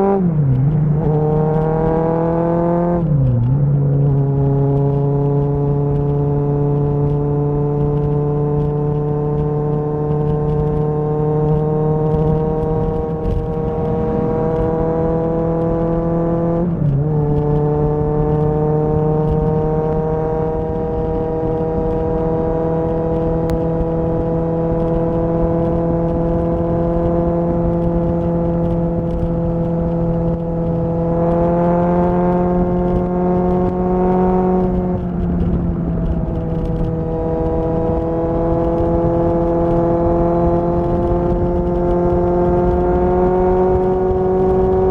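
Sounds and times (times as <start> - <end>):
gear change: 0.0 - 44.9
motorcycle engine revving: 0.0 - 44.9.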